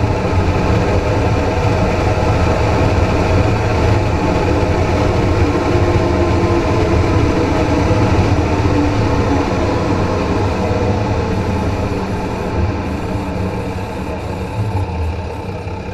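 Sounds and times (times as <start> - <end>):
low drivetrain hum: 0.0 - 15.9.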